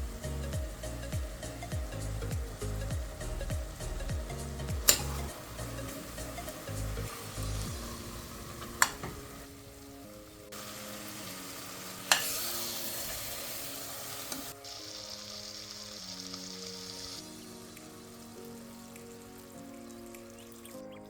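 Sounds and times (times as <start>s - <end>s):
background music: 0.0s - 21.0s
food sizzling in oil: 0.1s - 20.8s.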